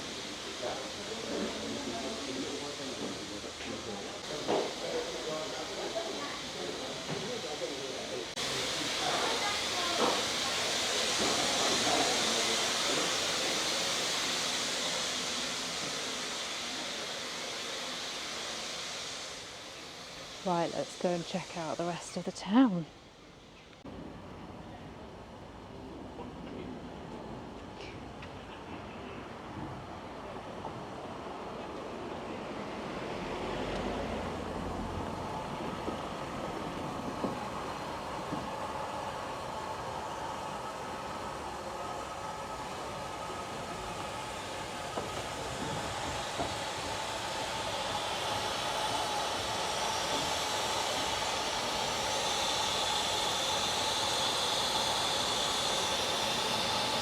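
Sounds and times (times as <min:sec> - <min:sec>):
steam locomotive venting steam: 0:00.0 - 0:57.0.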